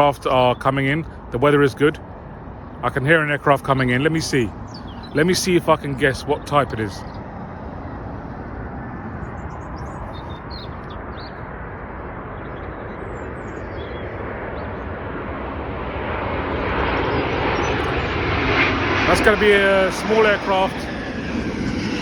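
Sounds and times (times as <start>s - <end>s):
airliner engines approaching: 0.0s - 22.0s.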